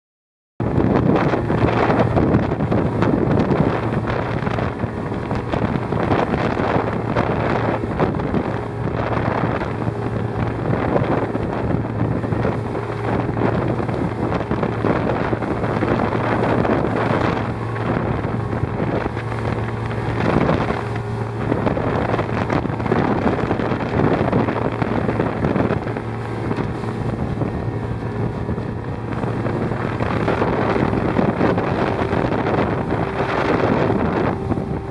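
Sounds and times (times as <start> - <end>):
motorboat engine drone: 0.6 - 34.9
rushing water: 0.6 - 34.9
wind buffeting microphone: 0.6 - 34.9.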